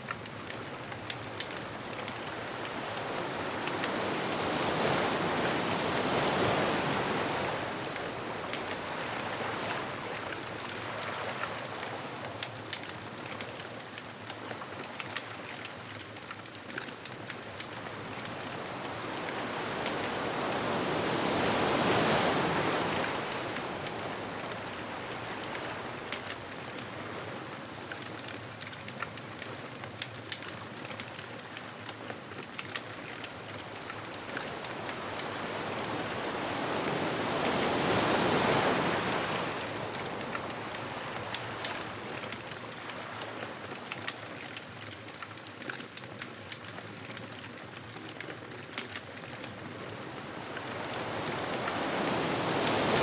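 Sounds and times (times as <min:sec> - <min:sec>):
ocean surf washing onto beach: 0:00.0 - 0:53.0
small crackles: 0:00.0 - 0:53.0.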